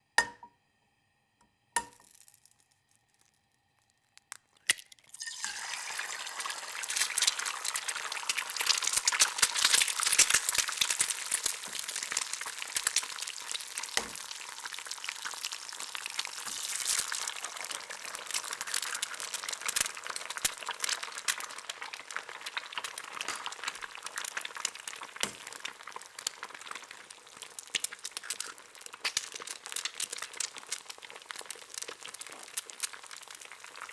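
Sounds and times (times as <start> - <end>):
egg sizzling in a hot pan: 1.8 - 33.9.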